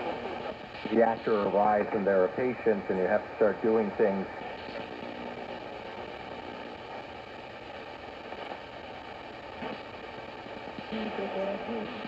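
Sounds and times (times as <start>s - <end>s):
radio static and hiss: 0.0s - 12.0s.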